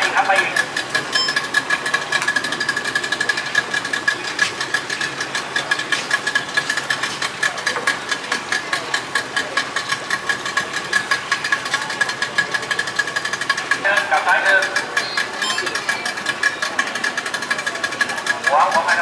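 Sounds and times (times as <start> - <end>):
boat engine knocking: 0.0 - 19.0.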